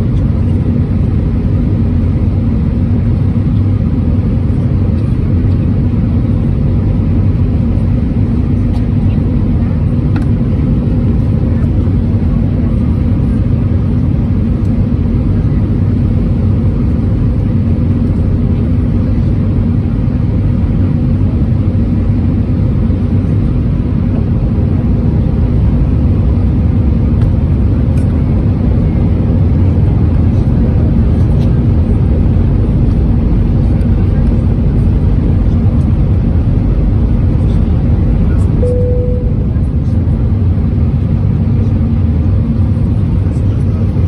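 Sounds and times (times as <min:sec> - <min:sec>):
aircraft engines rumbling: 0:00.0 - 0:44.0
constant low hum: 0:00.0 - 0:44.0.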